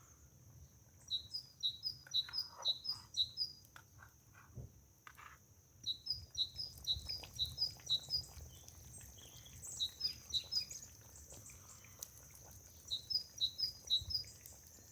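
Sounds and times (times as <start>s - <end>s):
small bird chirping: 0.0s - 3.8s, 5.2s - 14.9s.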